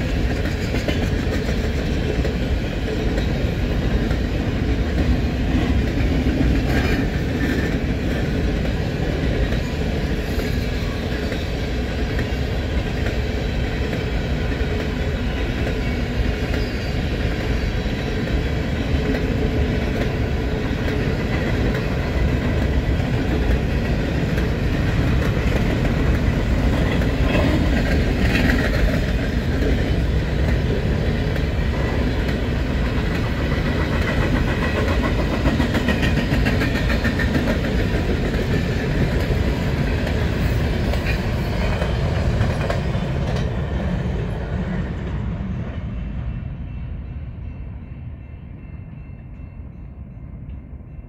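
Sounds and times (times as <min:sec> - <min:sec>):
train wheels rolling on rails: 0:00.0 - 0:51.0.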